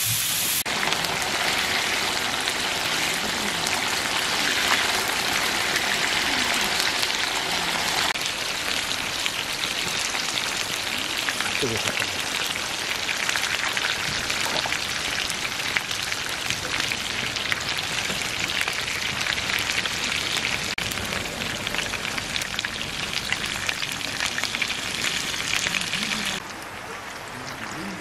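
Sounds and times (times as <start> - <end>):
meat sizzling on a griddle: 0.0 - 26.4.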